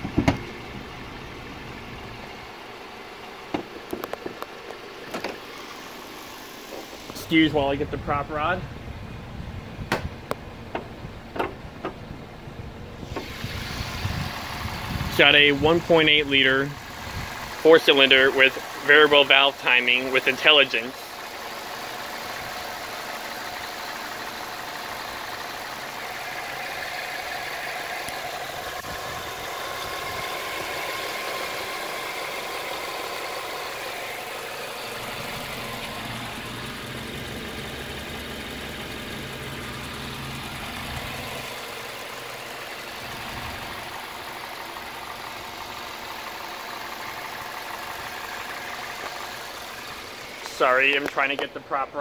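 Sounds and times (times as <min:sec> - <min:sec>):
car engine idling: 0:00.0 - 0:52.0.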